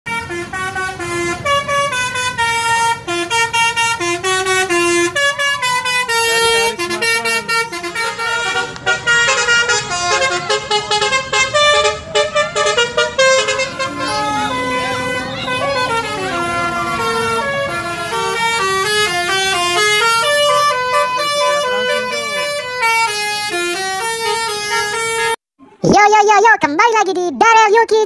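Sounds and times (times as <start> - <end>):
bus horn playing a tune: 0.0 - 25.4.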